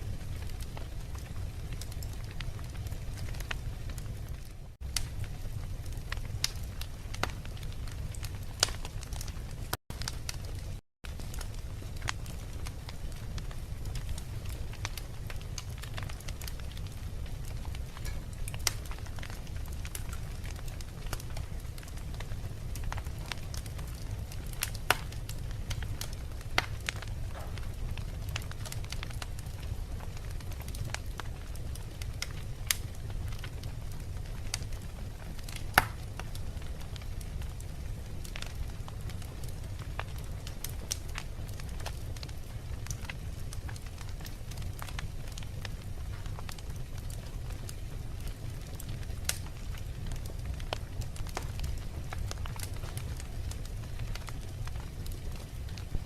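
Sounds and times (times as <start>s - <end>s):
logs crackling in fireplace: 0.0s - 56.0s
low fire rumble: 0.0s - 56.0s
sharp pops of fire: 0.1s - 56.0s.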